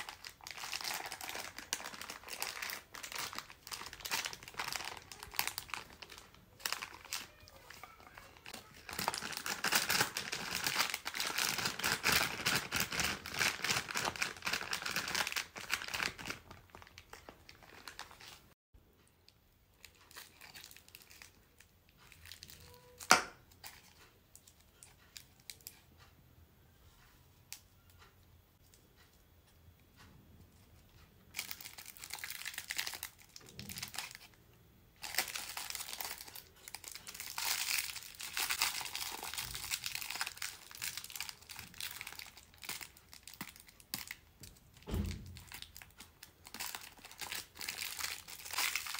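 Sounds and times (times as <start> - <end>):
cellophane crinkling: 0.0 - 18.6, 19.8 - 25.8, 31.3 - 34.4, 35.0 - 48.9
plastic candy wrappers crinkling: 0.0 - 18.6, 19.8 - 25.8, 31.3 - 48.9.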